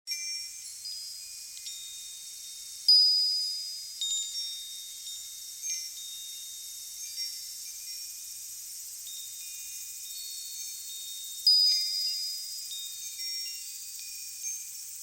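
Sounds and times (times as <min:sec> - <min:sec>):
wind chimes ringing: 0:00.1 - 0:15.0.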